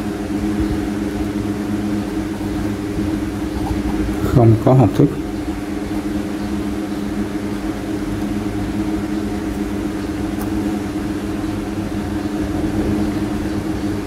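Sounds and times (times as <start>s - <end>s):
machine hum with low drone: 0.0s - 14.0s.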